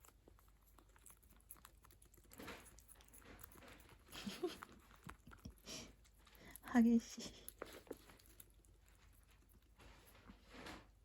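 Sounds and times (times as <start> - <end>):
cat licking: 0.0 - 10.1.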